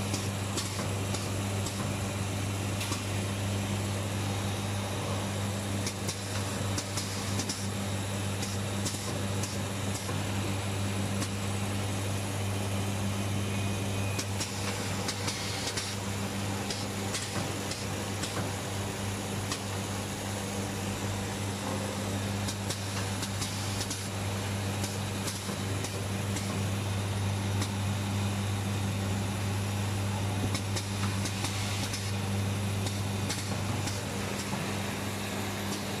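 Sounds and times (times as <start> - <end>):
factory machinery humming: 0.0 - 36.0.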